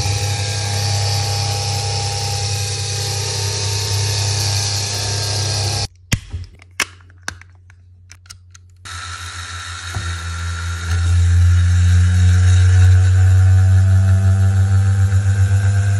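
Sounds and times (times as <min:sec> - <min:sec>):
small electric motor whirring: 0:00.0 - 0:05.9, 0:08.8 - 0:15.9.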